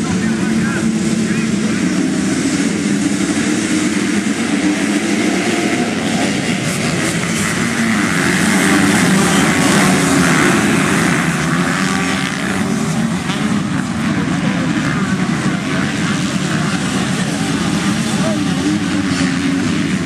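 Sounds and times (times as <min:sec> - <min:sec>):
motocross bikes racing: 0:00.0 - 0:20.0.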